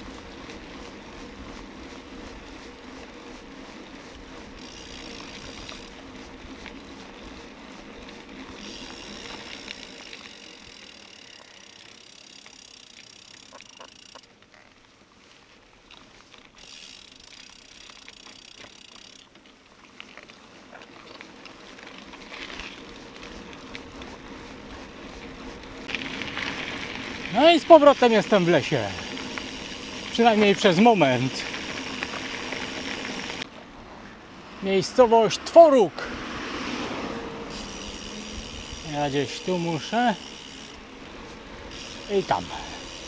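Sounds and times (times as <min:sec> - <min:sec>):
bicycle tyre and wind noise: 0:00.0 - 0:43.0.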